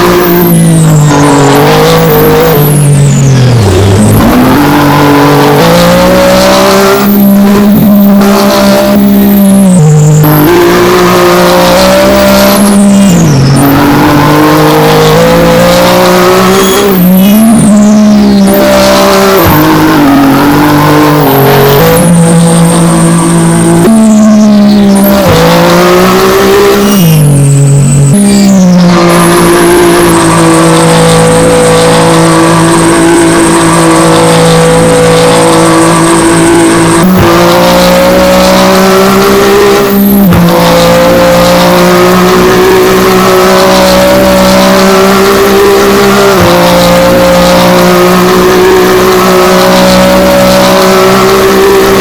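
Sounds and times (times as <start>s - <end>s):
race car engine shifting gears: 0.0s - 52.0s.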